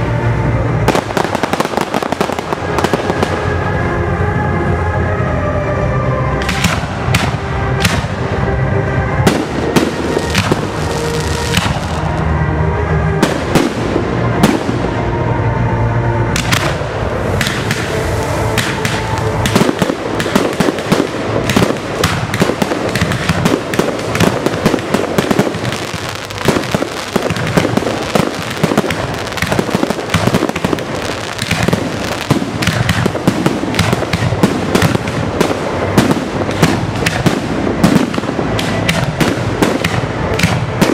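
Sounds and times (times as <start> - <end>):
fireworks bursting: 0.0 - 4.0, 6.4 - 12.3, 13.1 - 15.4, 16.2 - 40.9
music playing: 0.0 - 40.9.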